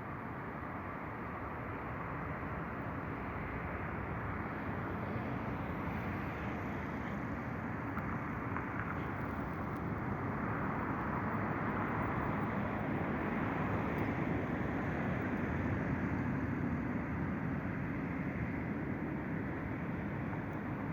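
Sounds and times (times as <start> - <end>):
distant jet engines roaring: 0.0 - 20.9.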